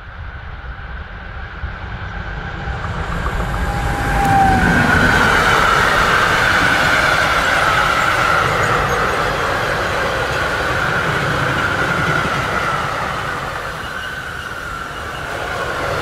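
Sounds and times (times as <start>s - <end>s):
freight train passing: 0.0s - 16.0s
high steady whine: 0.0s - 16.0s
wheels rolling on rails: 1.8s - 16.0s.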